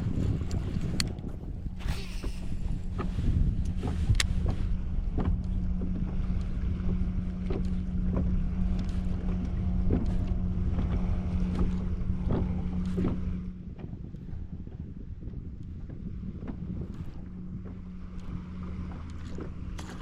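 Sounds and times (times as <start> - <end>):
boat motor humming: 0.0 - 20.0
water slapping hull: 0.0 - 20.0
wind on microphone: 0.0 - 20.0.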